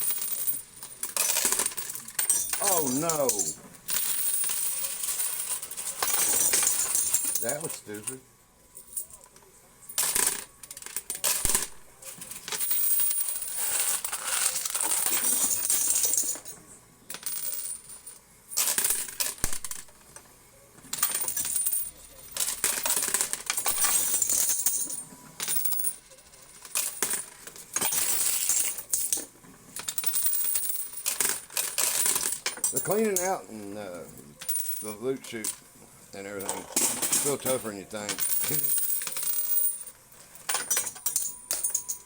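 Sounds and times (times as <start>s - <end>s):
coins clattering and jingling: 0.0s - 8.2s, 9.9s - 19.9s, 20.9s - 33.4s, 34.0s - 35.6s, 36.3s - 42.0s.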